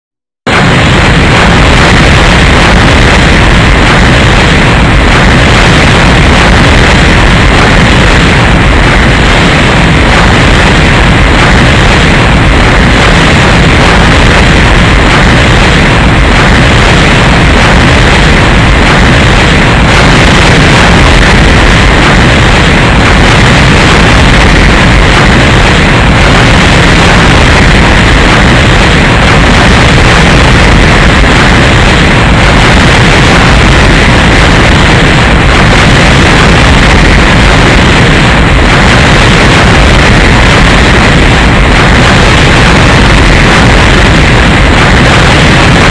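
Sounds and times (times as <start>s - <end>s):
cartoon explosion blast: 0.4s - 45.9s.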